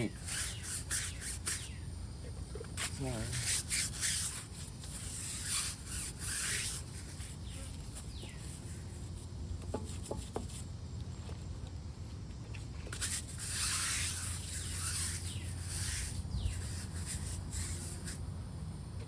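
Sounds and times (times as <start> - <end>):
cloth wiping car paint: 2.8 - 18.2.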